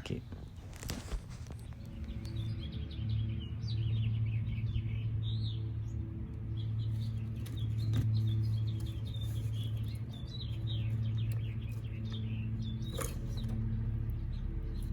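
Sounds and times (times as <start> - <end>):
small birds chirping: 0.0 - 14.9
steady low hum: 0.0 - 14.9.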